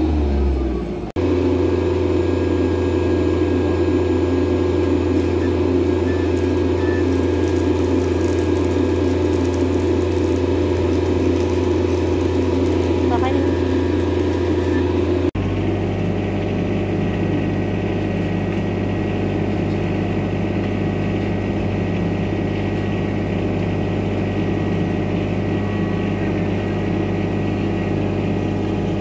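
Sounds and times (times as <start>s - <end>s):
diesel generator droning: 0.0s - 29.0s.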